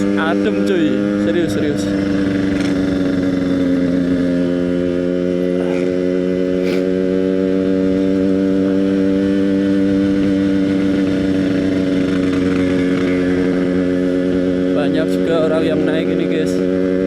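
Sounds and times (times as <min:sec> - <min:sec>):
two-stroke motorcycle engine cruising: 0:00.0 - 0:17.0.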